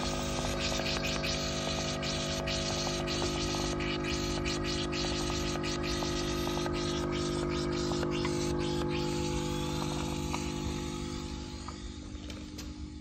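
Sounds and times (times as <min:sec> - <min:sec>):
hiss: 0:00.0 - 0:11.3
dehumidifier humming: 0:00.0 - 0:13.0.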